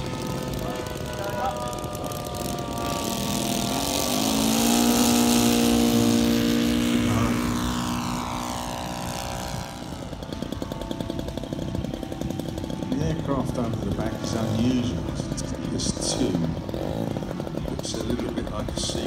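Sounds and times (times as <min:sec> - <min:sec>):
model aircraft engine idling: 0:00.0 - 0:19.0
model plane engine at full power: 0:00.0 - 0:19.0.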